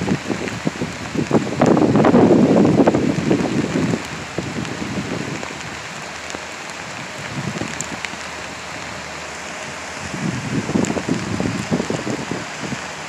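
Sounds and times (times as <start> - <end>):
wind bumps on microphone: 0.0 - 6.1, 6.8 - 8.3, 9.8 - 13.0
river rushing over rocks: 0.0 - 13.0.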